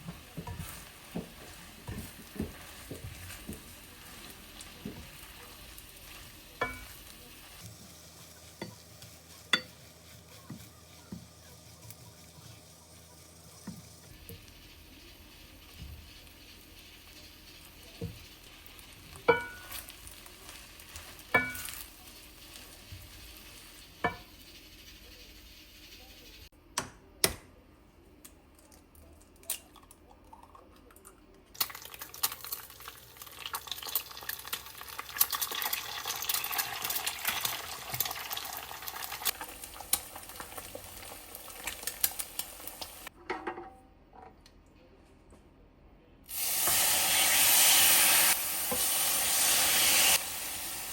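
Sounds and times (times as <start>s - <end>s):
food sizzling in a frying pan: 0.0s - 26.5s, 31.6s - 43.1s, 46.3s - 50.9s.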